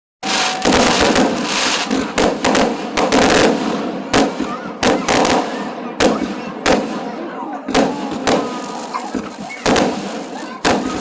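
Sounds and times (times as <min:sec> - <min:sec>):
fireworks bangs: 0:00.2 - 0:11.0
fireworks crackling: 0:00.2 - 0:11.0.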